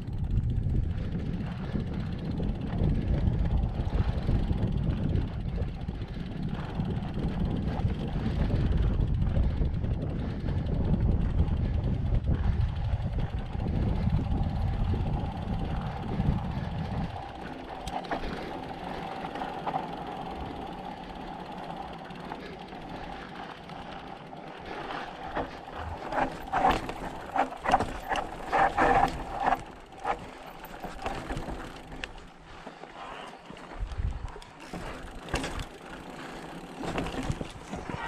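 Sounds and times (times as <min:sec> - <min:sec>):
bike rattling over rough ground: 0:00.0 - 0:38.0
bike tyres humming: 0:00.0 - 0:38.0
wind rumble on microphone: 0:00.0 - 0:38.0.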